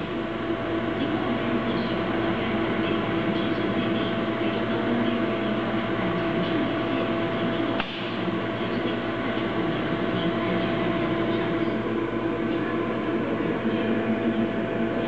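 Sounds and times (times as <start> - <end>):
welding machine hum and hiss: 0.0 - 15.0.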